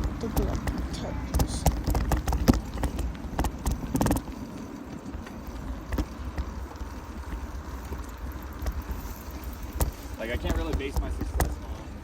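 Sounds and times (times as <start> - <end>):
bike and mount rattling: 0.0 - 12.0
rumble of wind and tyres: 0.0 - 12.0.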